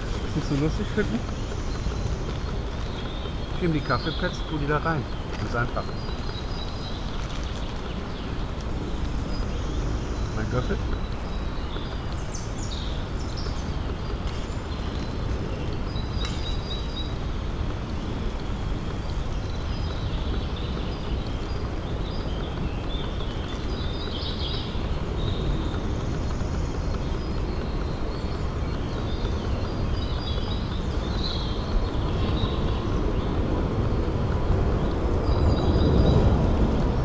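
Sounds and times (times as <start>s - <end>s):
birds chirping: 0.0s - 37.0s
low wind-like rumble: 0.0s - 37.0s.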